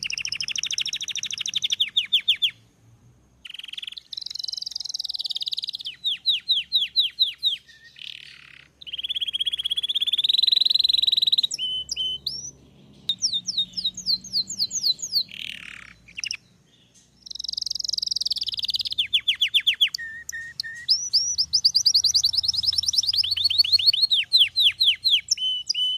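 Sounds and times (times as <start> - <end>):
canary singing trills: 0.0 - 2.8, 3.4 - 25.9.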